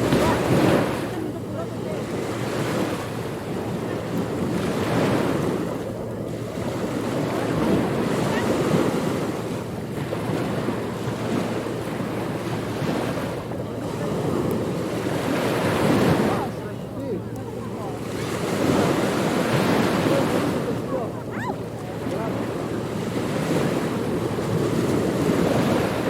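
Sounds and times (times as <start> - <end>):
waves breaking: 0.0 - 26.0.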